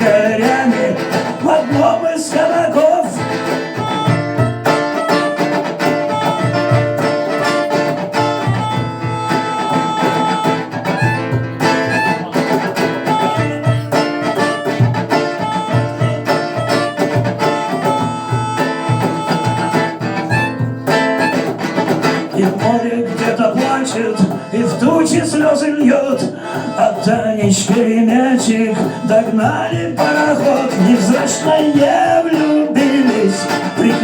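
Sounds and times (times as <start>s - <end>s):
rock band playing live: 0.0s - 34.0s.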